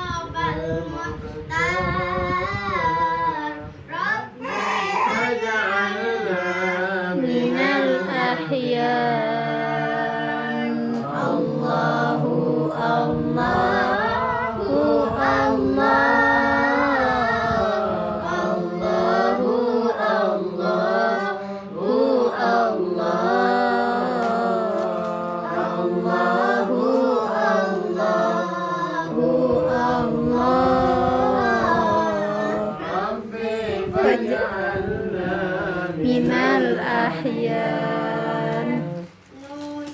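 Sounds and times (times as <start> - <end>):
person singing devotional song: 0.0 - 39.9.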